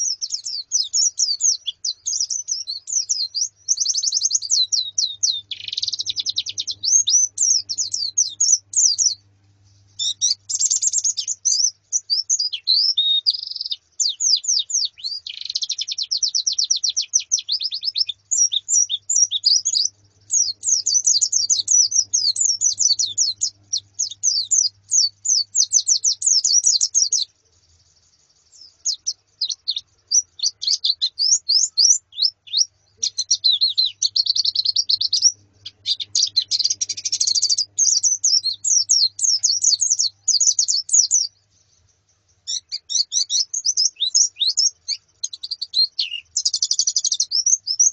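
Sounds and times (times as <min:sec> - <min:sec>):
birds chirping and twittering: 0:00.0 - 0:47.9.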